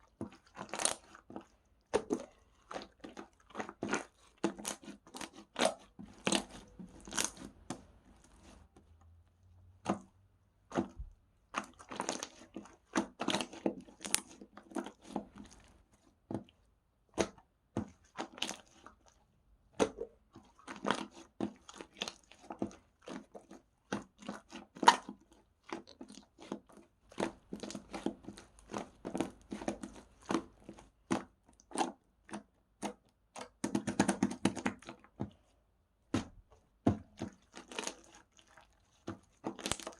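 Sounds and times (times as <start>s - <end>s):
slime squished by hand: 0.0s - 9.1s, 9.7s - 35.3s, 36.1s - 39.9s.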